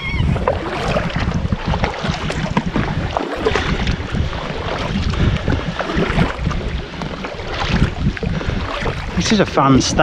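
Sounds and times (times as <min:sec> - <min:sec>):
kayak paddles splashing: 0:00.0 - 0:10.0
wind rumble on microphone: 0:00.0 - 0:10.0.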